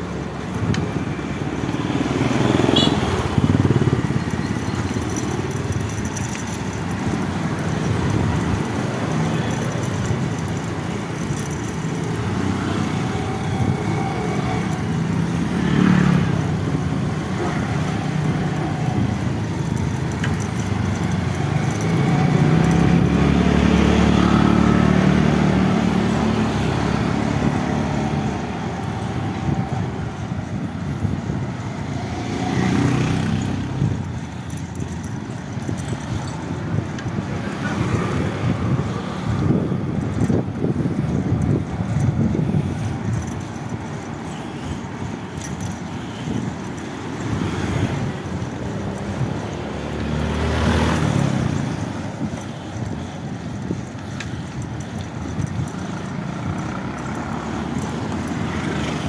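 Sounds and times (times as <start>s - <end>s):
road noise: 0.0s - 59.0s
scooter engines running: 0.0s - 59.0s.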